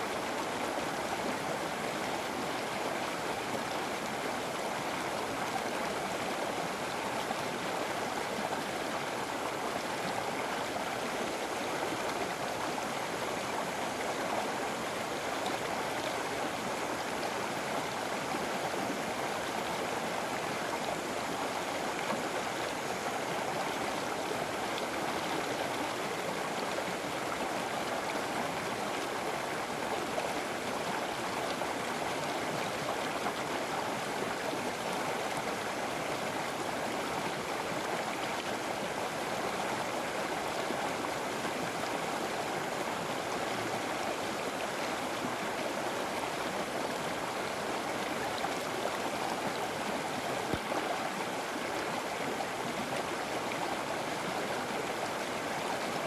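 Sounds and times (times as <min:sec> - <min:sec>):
water flowing over rocks: 0:00.0 - 0:56.0.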